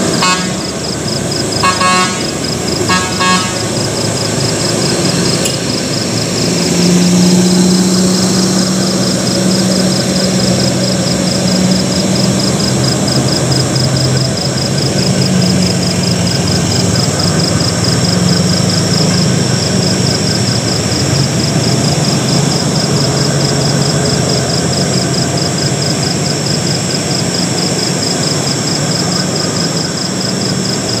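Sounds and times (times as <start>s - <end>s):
trucks and cars climbing hill: 0.0s - 31.0s.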